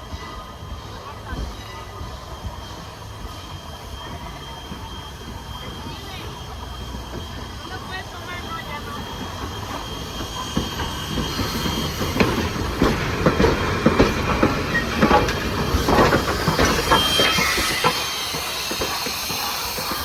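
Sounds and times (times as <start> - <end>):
faint wheel squeal: 0.0 - 20.0
train rumble: 0.0 - 20.0
train wheels clacking on rail joints: 0.0 - 20.0.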